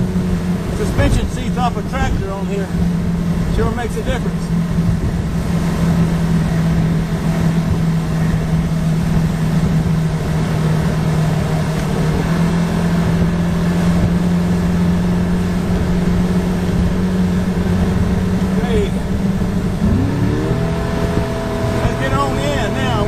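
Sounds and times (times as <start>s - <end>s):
boat hull on choppy water: 0.0s - 23.0s
outboard motor running: 0.0s - 23.0s.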